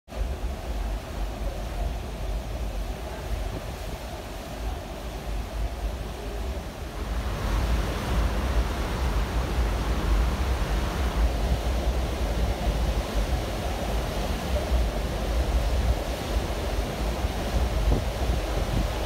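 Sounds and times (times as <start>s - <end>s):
ship wake rushing: 0.1s - 19.0s
wind buffeting microphone: 0.3s - 19.0s.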